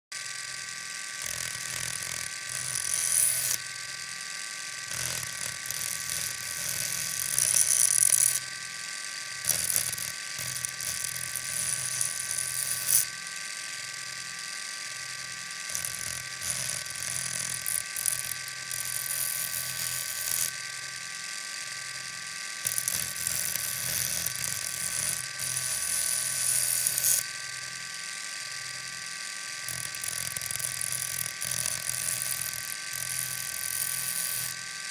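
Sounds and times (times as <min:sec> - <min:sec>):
knife grinding on wheel: 0:00.2 - 0:20.9, 0:22.3 - 0:27.3, 0:29.5 - 0:34.9
electric motor whine: 0:00.2 - 0:34.9.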